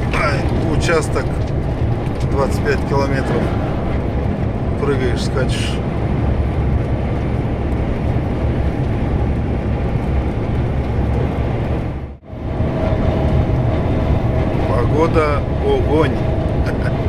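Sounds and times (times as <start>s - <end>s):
road rumble: 0.0s - 17.0s
truck engine drone: 0.0s - 17.0s.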